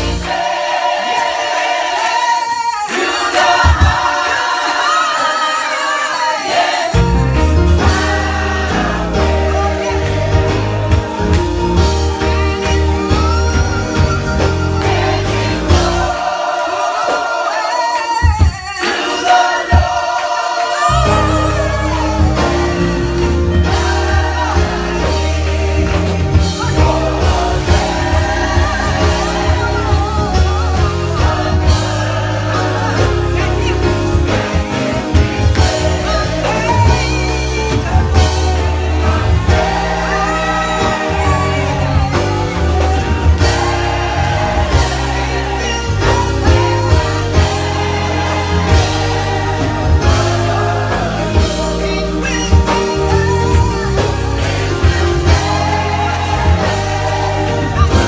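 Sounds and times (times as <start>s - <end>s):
band playing: 0.0s - 58.0s
gospel choir singing: 0.0s - 58.0s.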